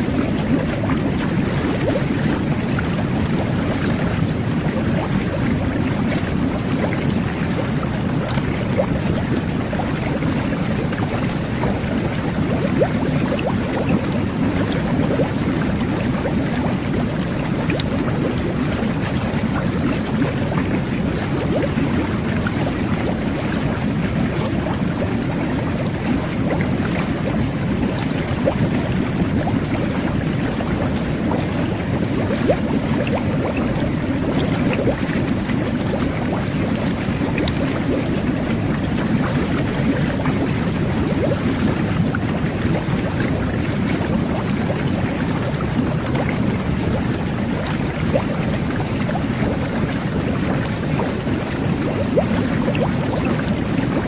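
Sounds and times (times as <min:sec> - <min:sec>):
jet bath bubbling water: 0:00.0 - 0:54.0.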